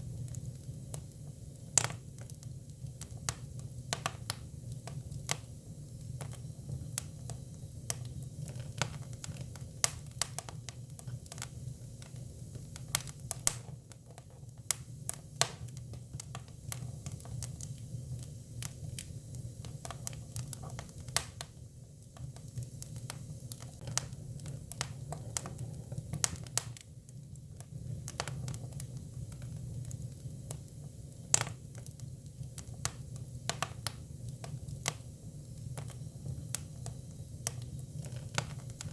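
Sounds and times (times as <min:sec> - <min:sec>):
firewood crackling and popping: 0:00.0 - 0:38.9.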